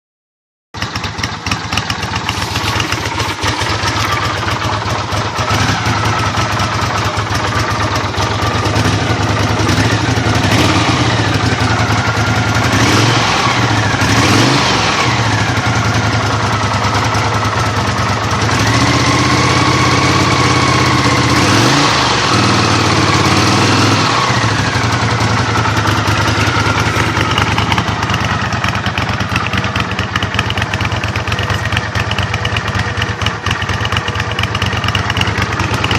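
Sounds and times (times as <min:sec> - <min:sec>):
motorcycle engine idling and revving: 0:00.8 - 0:35.9.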